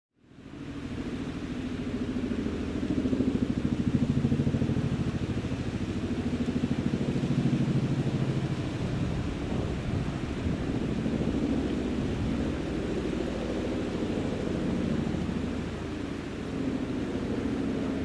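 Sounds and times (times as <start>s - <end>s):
helicopter rotors beating: 0.4s - 18.0s.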